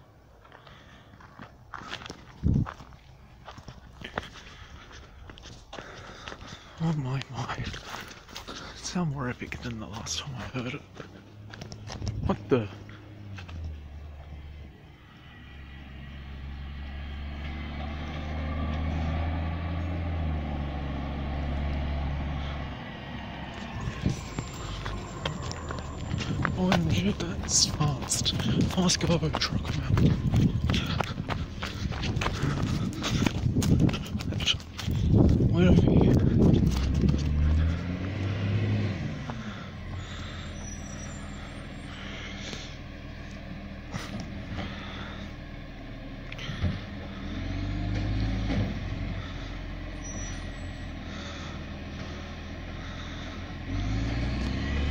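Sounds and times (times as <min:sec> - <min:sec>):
garbage truck engine driving: 0:05.8 - 0:54.9.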